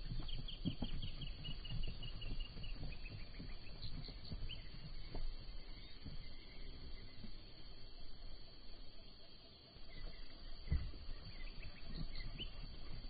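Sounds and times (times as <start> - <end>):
hooves thudding on dry ground: 0.0 - 13.0.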